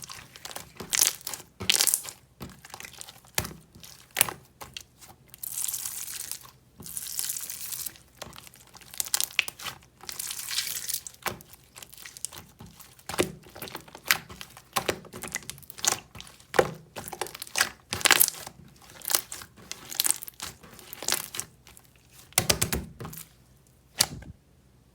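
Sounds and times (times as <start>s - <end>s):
crinkling rustling handling noise: 0.0s - 24.3s.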